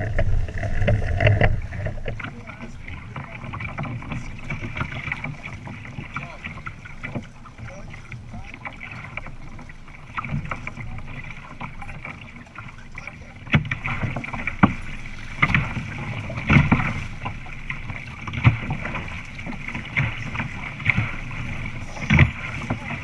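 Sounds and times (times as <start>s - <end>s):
hull slapping water: 0.0s - 23.0s
water rushing along hulls: 0.0s - 23.0s.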